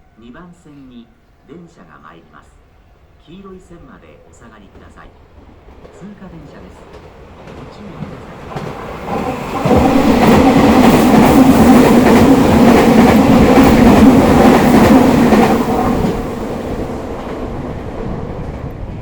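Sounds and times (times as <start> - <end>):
train rolling rumble: 3.2 - 19.0.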